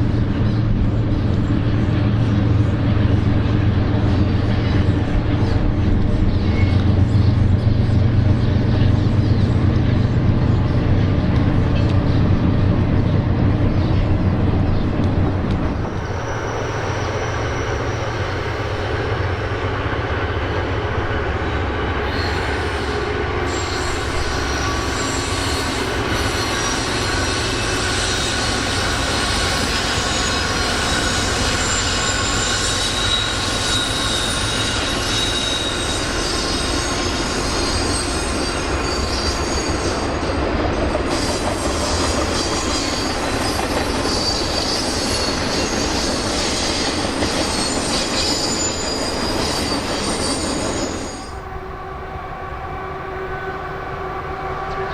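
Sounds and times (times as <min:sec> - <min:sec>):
train rumbling past: 0:00.0 - 0:54.9
wheels squealing on rail: 0:00.0 - 0:54.9.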